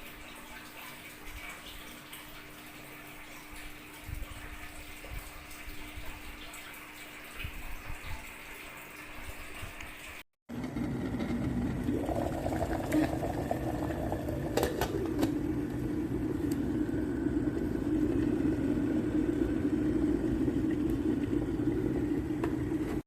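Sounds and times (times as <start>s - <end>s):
kettle water rumbling and bubbling: 0.0s - 23.0s.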